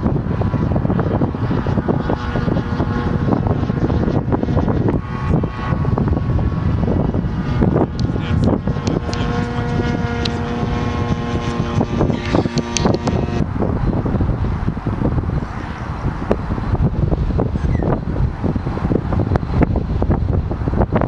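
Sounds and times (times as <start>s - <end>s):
model aeroplane engine drone: 0.0s - 21.0s
wind buffeting microphone: 0.0s - 21.0s.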